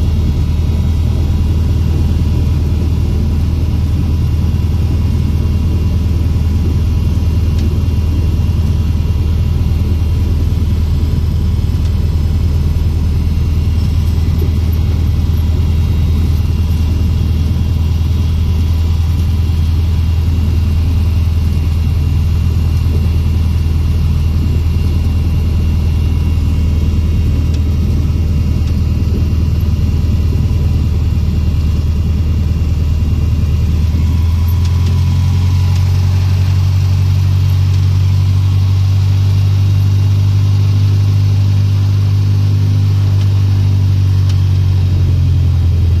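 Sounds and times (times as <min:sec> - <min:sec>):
light aircraft engine and propeller: 0:00.0 - 0:46.0.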